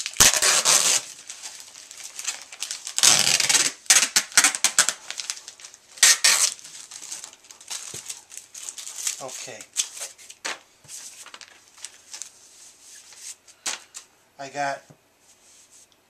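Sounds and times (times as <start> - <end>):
plastic sleeves crinkling: 0.0 - 14.1.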